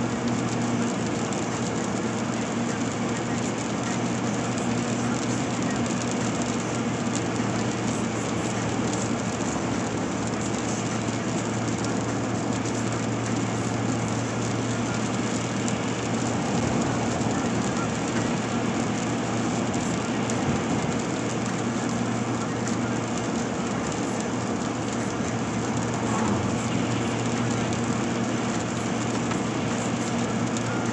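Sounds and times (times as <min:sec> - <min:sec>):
engine drone: 0:00.0 - 0:30.9.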